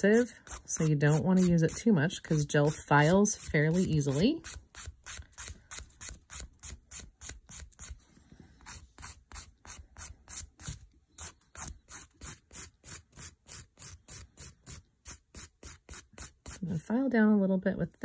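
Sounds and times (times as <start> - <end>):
nail file rasping: 0.0 - 8.0, 8.6 - 16.6.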